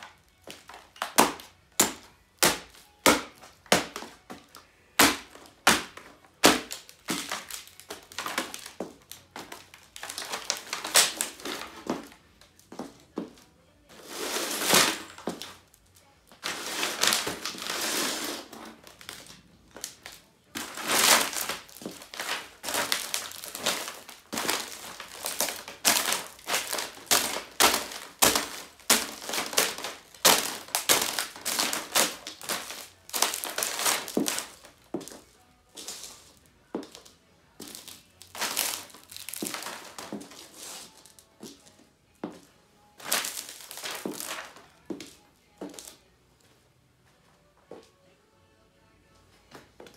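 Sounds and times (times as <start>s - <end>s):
high heels crushing laptop: 0.0s - 15.7s, 16.3s - 41.7s, 42.3s - 45.9s
plastic crackling: 0.0s - 35.2s, 35.8s - 41.7s, 43.0s - 45.1s.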